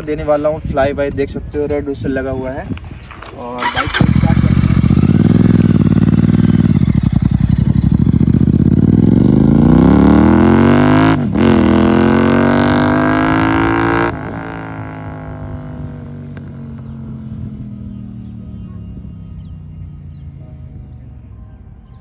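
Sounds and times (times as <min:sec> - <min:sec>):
motorcycle engine revving: 0:03.2 - 0:21.4.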